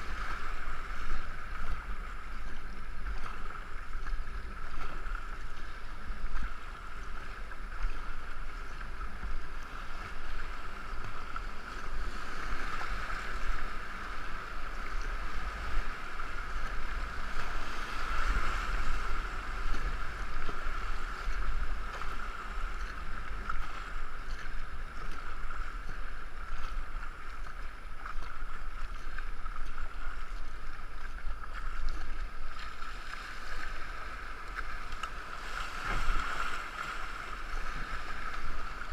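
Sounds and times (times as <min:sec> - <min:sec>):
water rushing along canoe: 0:00.0 - 0:38.9
wind rumbling on microphone: 0:00.0 - 0:38.9.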